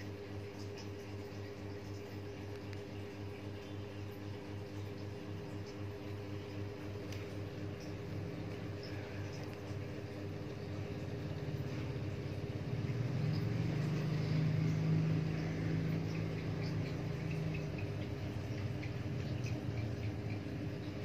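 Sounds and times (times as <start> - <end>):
aquarium air pump humming: 0.0 - 21.0
bubbles ticking: 0.1 - 21.0.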